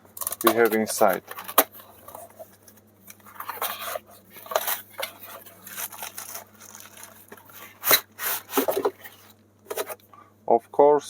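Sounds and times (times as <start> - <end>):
paper rustling: 0.2 - 10.0
cardboard box opening: 0.4 - 10.0.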